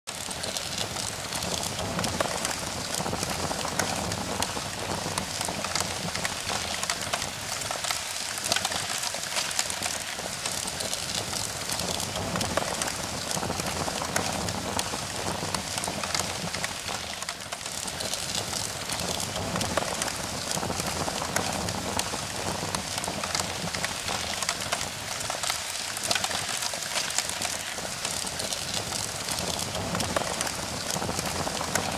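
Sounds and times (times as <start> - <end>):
fire crackling and hissing: 0.1 - 31.9.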